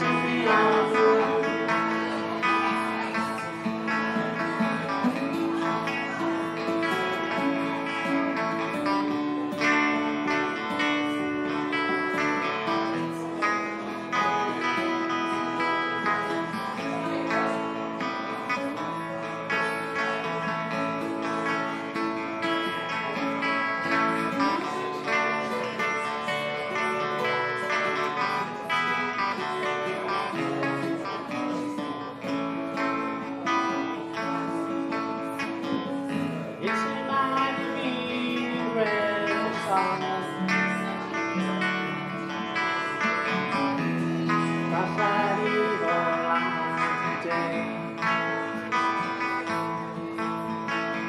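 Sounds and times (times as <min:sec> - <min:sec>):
acoustic guitar strummed and picked: 0:00.0 - 0:51.0.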